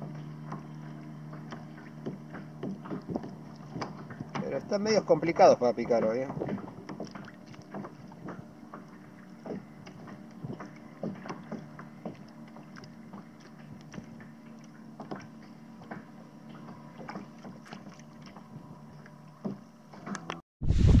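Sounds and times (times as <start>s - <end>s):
waves lapping against kayak hull: 0.0s - 21.0s.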